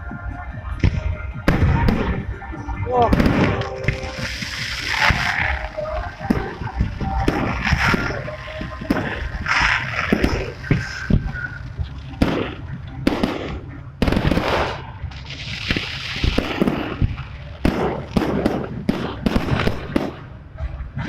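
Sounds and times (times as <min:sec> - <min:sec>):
fireworks crackling: 0:00.0 - 0:21.0
fireworks bangs: 0:00.7 - 0:20.4.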